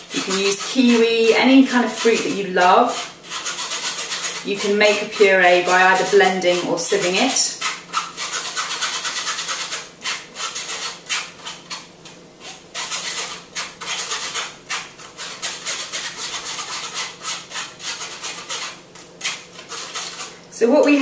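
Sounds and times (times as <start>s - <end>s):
metal spoon rasping in mesh sieve: 0.0s - 20.9s.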